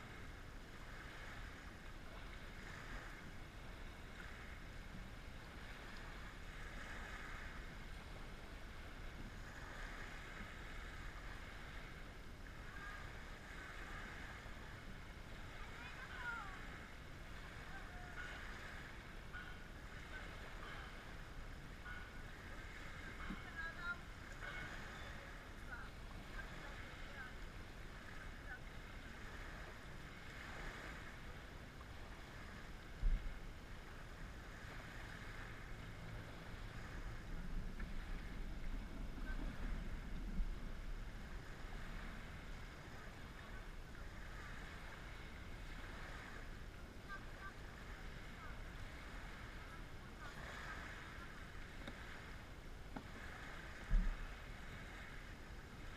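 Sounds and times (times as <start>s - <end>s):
wind rumble on microphone: 0.0s - 55.9s.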